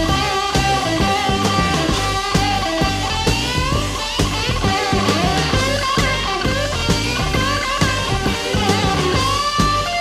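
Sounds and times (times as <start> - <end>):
bass: 0.0 - 10.0
drum hits: 0.0 - 10.0
electric guitar bent notes: 0.0 - 10.0.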